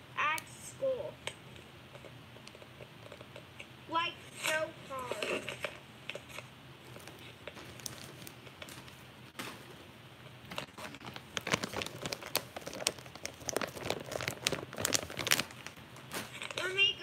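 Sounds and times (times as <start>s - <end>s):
crinkling and sharp clicks: 1.2s - 3.7s, 4.4s - 9.6s, 10.2s - 16.7s.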